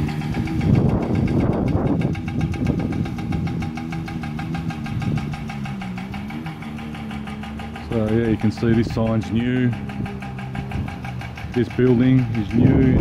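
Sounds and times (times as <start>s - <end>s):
fast fine ticking: 0.0s - 13.0s
motor engine running: 0.0s - 13.0s.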